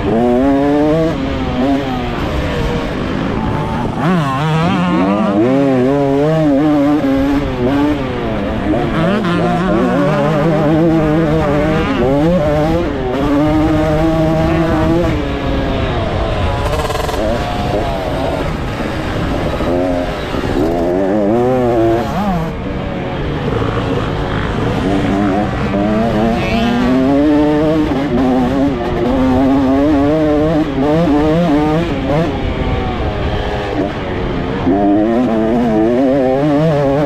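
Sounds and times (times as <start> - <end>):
motorbike engine revving: 0.0 - 37.0.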